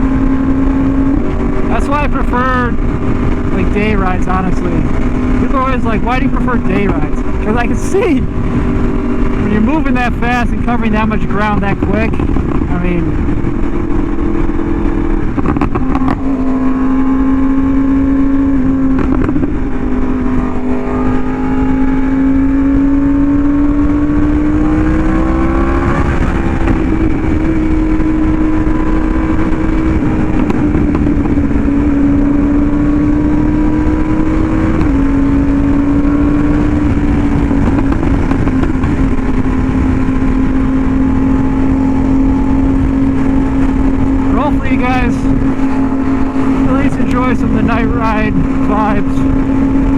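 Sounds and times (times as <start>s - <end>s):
motorcycle engine at speed: 0.0s - 49.9s.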